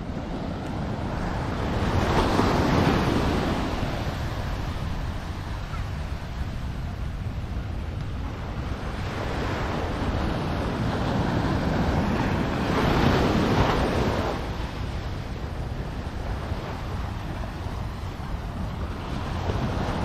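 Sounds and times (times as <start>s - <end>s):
surf washing onto beach: 0.0s - 20.0s
wind rumble on microphone: 0.0s - 20.0s.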